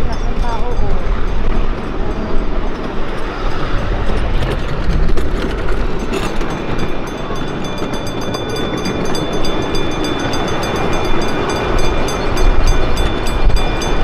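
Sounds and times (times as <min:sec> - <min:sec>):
miniature train rumbling on track: 0:00.0 - 0:14.0.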